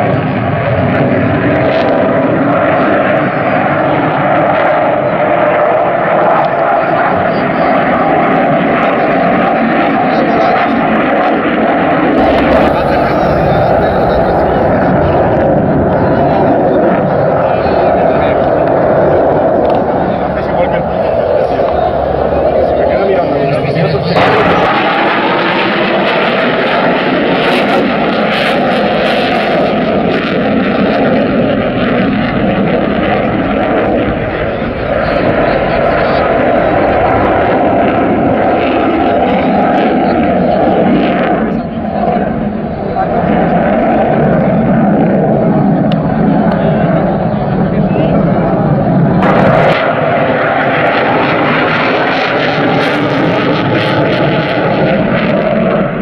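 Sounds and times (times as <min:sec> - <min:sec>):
fighter jet roaring past: 0:00.0 - 0:56.0.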